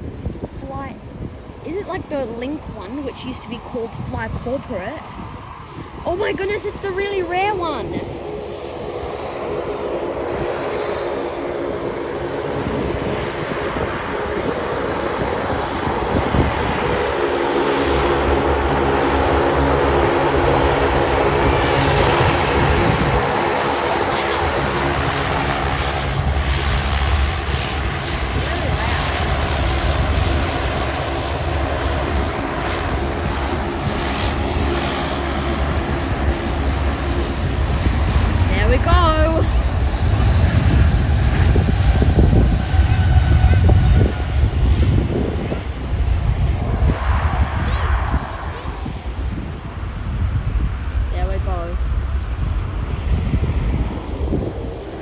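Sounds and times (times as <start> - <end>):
propeller aircraft engines droning: 0.0 - 55.0.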